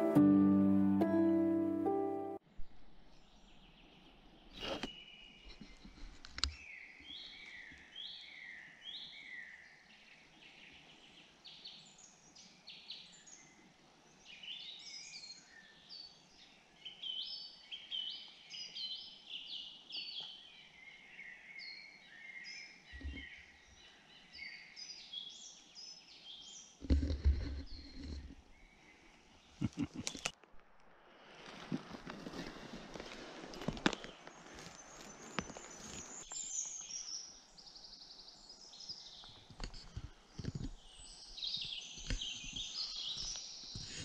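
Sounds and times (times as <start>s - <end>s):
birds chirping: 3.0s - 30.4s, 32.2s - 44.0s.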